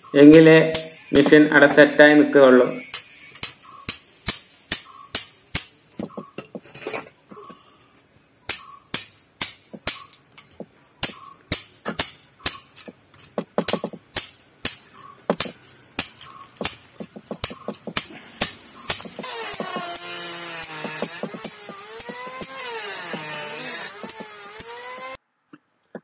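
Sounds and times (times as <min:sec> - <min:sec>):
hammer striking steel chisel: 0:00.3 - 0:01.5, 0:02.8 - 0:06.6, 0:08.5 - 0:25.2.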